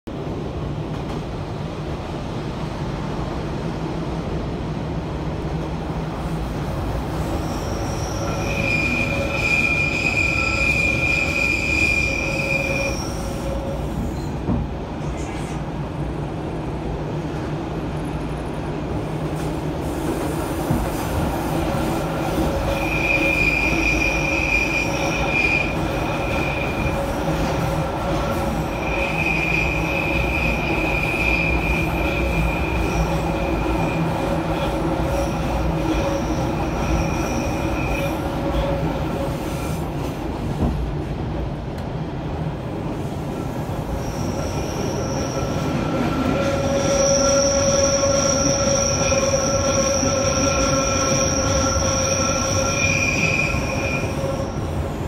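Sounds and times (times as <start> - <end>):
electric train rumbling: 0.1 - 55.0.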